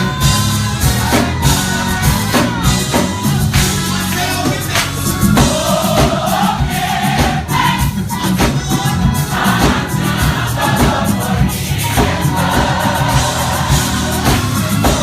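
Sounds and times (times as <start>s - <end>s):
drums and bass beat: 0.0s - 15.0s
gospel choir singing: 0.0s - 15.0s.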